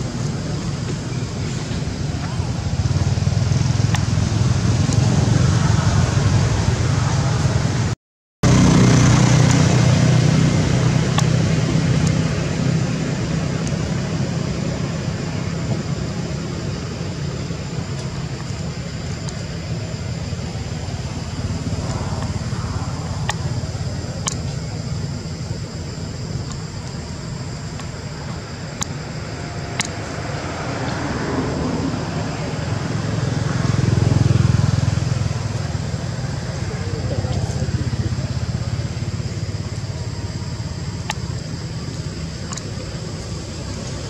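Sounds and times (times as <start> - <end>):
vehicle engine rumbling: 0.0 - 44.0.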